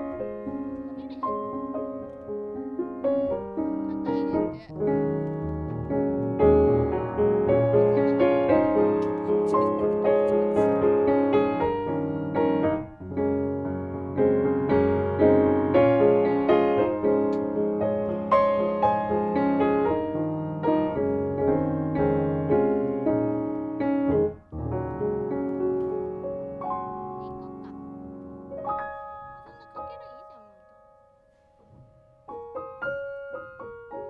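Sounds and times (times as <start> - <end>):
piano music: 0.0 - 34.0.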